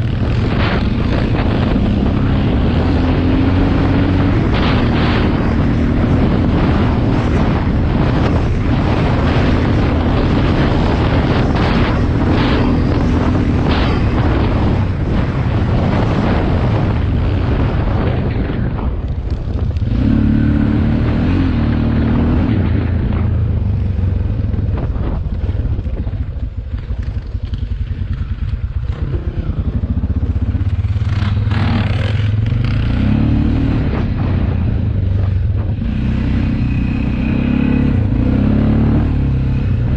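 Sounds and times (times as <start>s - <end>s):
motorcycle engine revving: 0.0s - 39.9s
rushing crackling noise: 0.0s - 39.9s.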